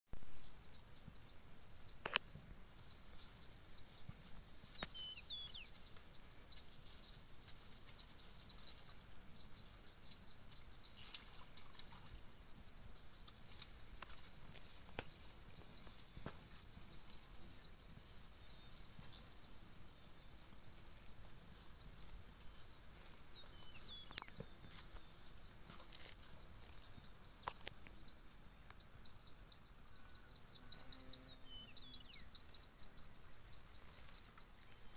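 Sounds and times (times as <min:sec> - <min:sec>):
high steady insect trill: 0:00.1 - 0:34.9
pulsed insect song: 0:00.2 - 0:34.9.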